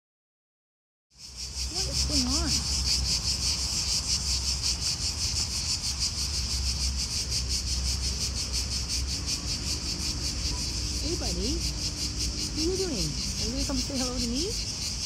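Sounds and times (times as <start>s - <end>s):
insects chirring: 1.2s - 15.0s.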